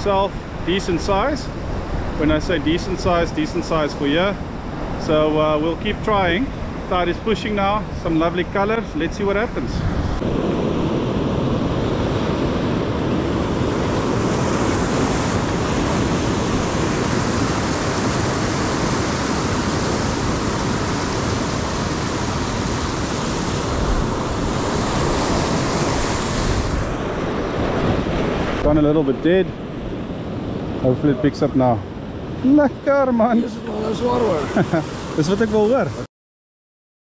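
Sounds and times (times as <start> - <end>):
ocean surf on rocks: 0.0 - 36.1.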